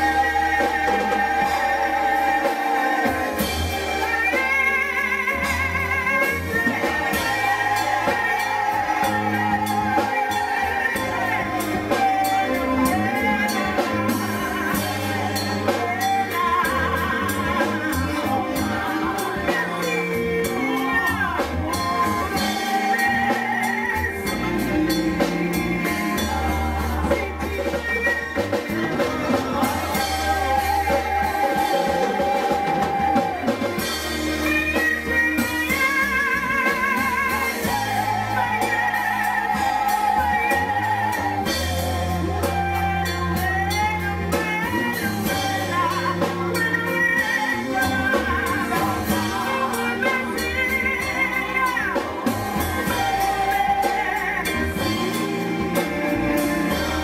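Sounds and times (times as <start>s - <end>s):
amplified band with drums: 0.0s - 57.0s
backing singers: 0.0s - 57.0s
low bass notes: 0.0s - 57.0s
woman singing lead: 0.0s - 57.0s.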